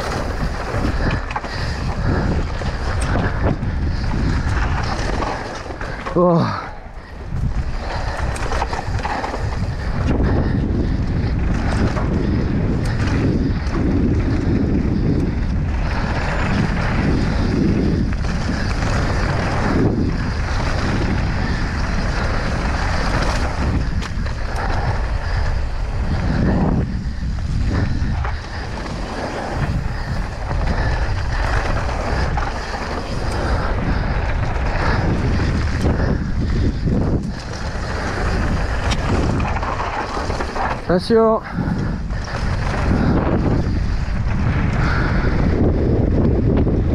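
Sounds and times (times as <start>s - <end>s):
bike rattling over bumps: 0.0s - 46.9s
bike tyres on dirt: 0.0s - 46.9s
wind rush on microphone: 0.0s - 46.9s.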